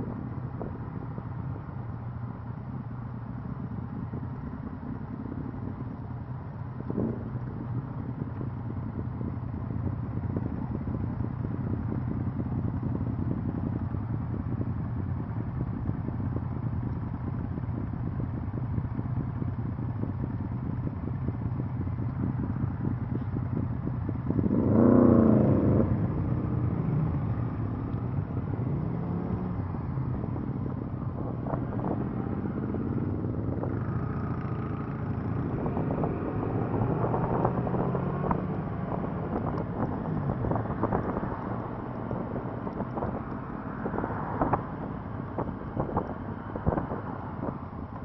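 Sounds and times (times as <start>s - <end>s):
motorcycle engines revving: 0.0s - 48.0s.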